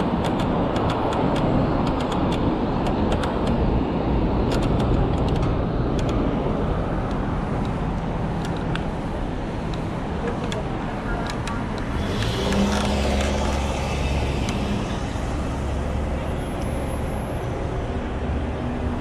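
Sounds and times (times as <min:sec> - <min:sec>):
wind rushing over microphone: 0:00.0 - 0:16.2
city street traffic: 0:00.0 - 0:19.0.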